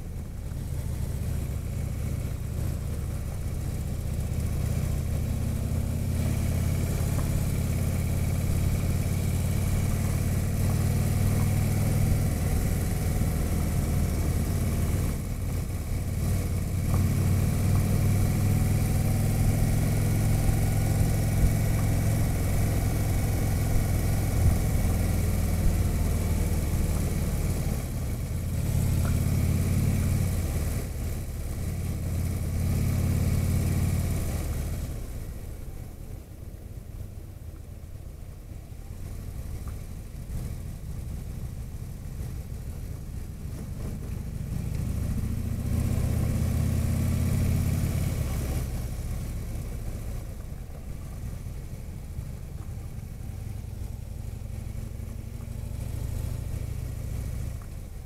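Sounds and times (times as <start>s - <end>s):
motorcycle engine running: 0.0s - 35.6s, 38.9s - 58.0s.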